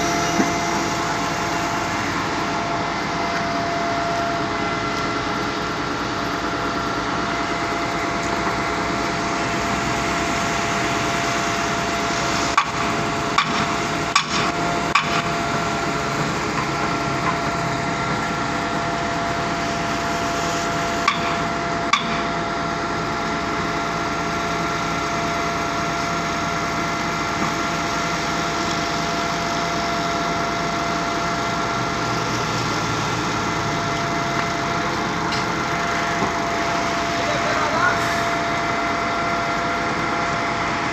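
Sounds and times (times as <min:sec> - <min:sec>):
pump engine and hydraulic drone: 0:00.0 - 0:40.9.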